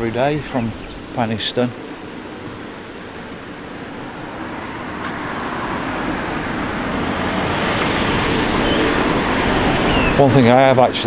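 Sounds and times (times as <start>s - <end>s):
car approaching on road: 0.0s - 11.0s.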